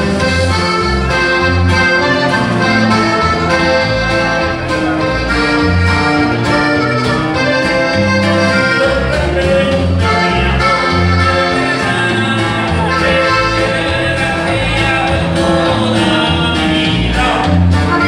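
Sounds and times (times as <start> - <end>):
accordion melody: 0.0 - 18.0
bass line: 0.0 - 18.0.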